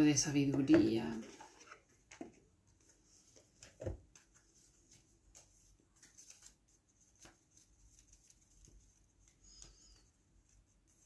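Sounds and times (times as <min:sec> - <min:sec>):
cards and paper rustling: 0:00.6 - 0:11.0.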